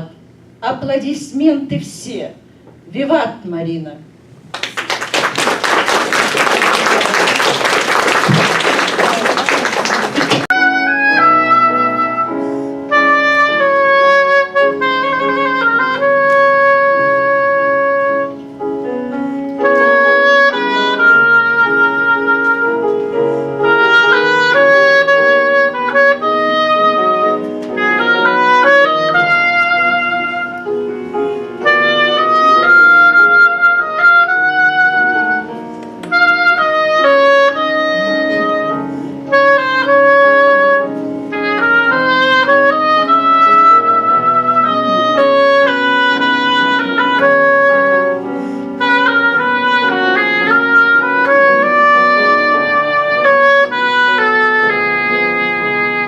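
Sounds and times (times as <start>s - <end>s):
piano accompaniment: 4.4s - 56.0s
clarinet melody: 4.9s - 56.0s.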